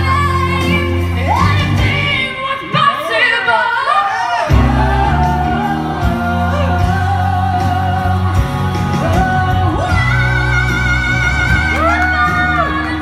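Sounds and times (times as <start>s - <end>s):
instrumental accompaniment with bass: 0.0s - 2.3s, 4.5s - 13.0s
woman singing ballad: 0.0s - 13.0s.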